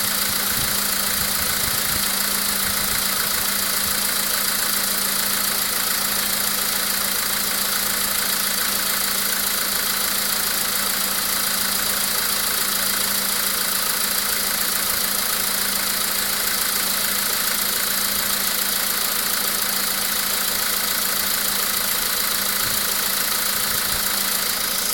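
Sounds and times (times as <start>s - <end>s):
car engine idling with knock: 0.0s - 24.9s.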